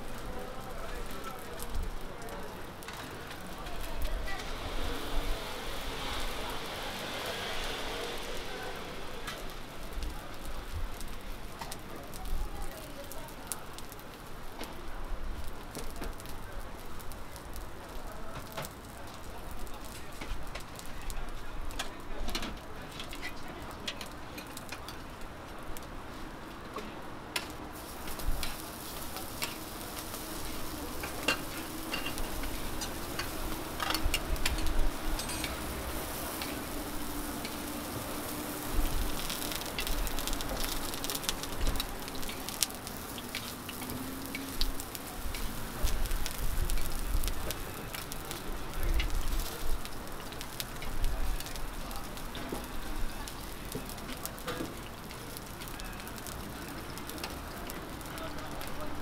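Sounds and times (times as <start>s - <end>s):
pancakes sizzling on a griddle: 0.0s - 59.0s.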